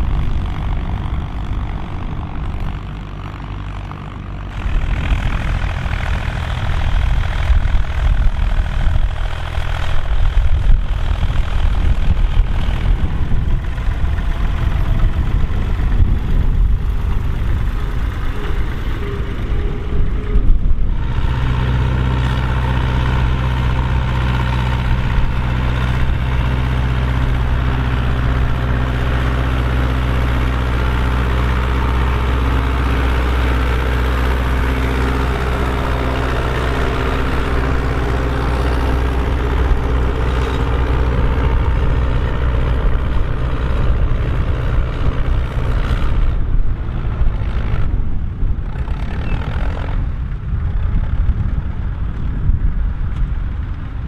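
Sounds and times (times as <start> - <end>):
diesel engine running unevenly: 0.0 - 54.0
tractor diesel engine pulling plough: 0.0 - 54.0.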